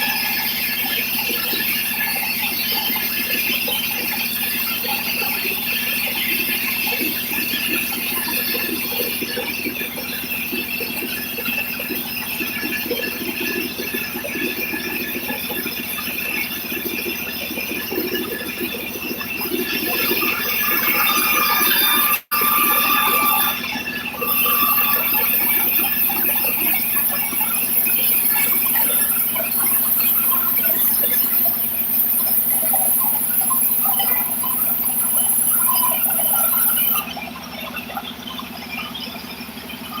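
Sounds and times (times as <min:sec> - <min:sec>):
saw high-pitched squeal: 0:00.0 - 0:37.1
sawmill machinery humming: 0:00.0 - 0:37.1.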